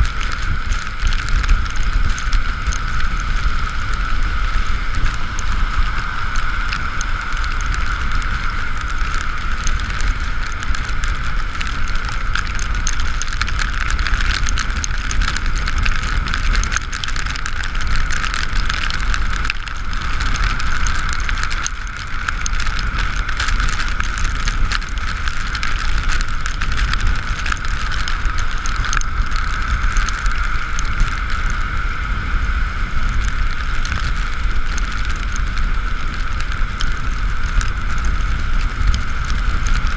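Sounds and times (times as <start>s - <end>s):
rain ticks: 0.0s - 39.9s
wind and road rush: 0.0s - 39.9s.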